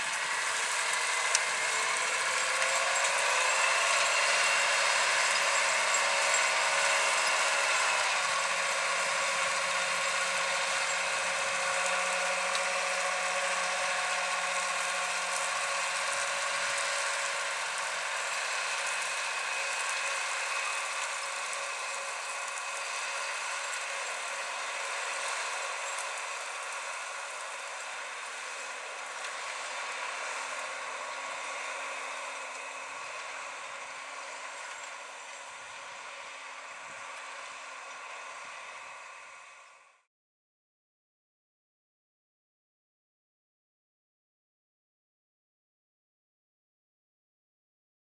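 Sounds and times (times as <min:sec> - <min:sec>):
tractor diesel engine: 0:00.0 - 0:40.1.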